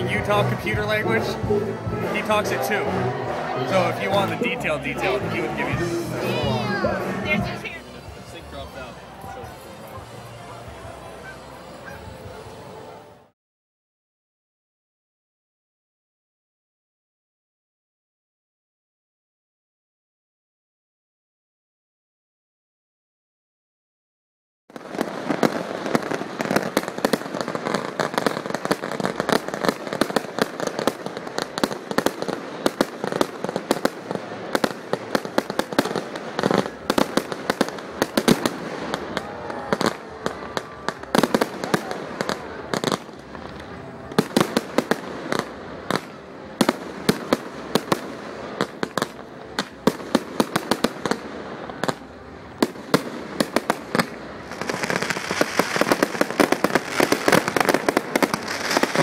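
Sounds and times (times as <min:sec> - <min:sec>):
fireworks crackling: 0:00.0 - 0:13.1, 0:24.7 - 0:59.0.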